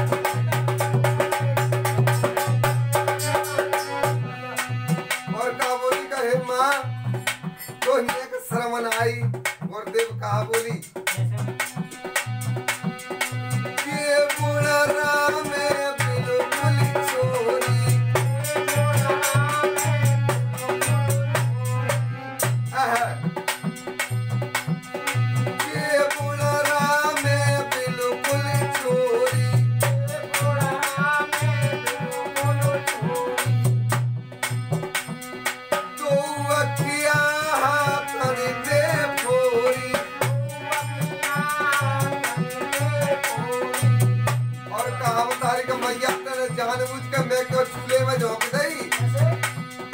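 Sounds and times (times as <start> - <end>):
hand drum beat: 0.0 - 49.9
harmonium notes: 0.0 - 49.9.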